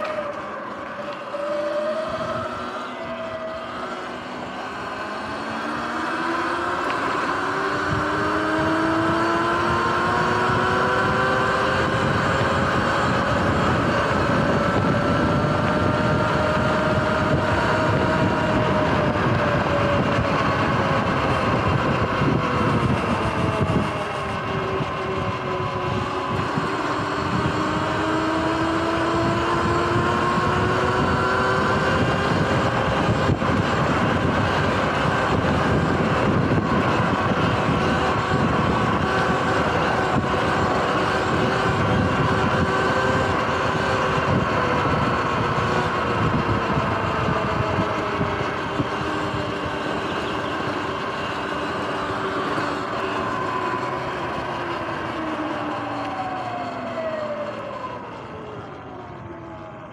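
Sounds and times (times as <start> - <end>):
electric motor whining: 0.0 - 58.9
rushing wind: 0.0 - 59.9.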